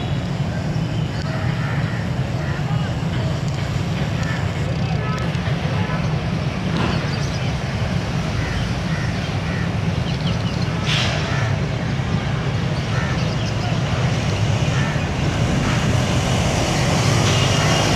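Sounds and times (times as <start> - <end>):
locomotive engine rumbling: 0.0 - 17.9.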